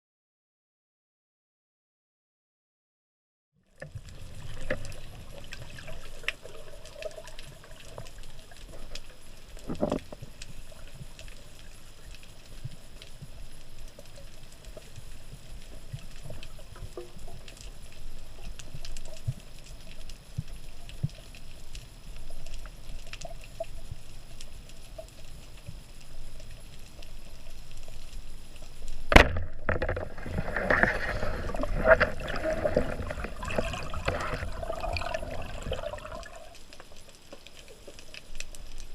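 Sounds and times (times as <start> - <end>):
water sloshing and gurgling: 3.7 - 38.9
faint clicks: 3.8 - 29.1, 30.6 - 38.9.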